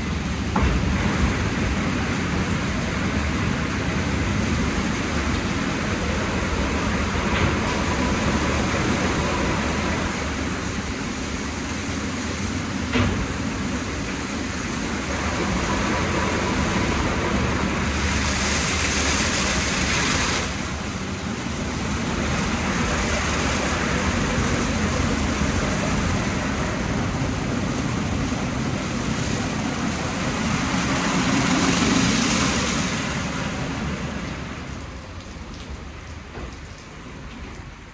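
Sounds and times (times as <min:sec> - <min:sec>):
high-pressure water spray hissing: 0:00.0 - 0:36.3
car wash brushes and water rushing: 0:00.0 - 0:37.9.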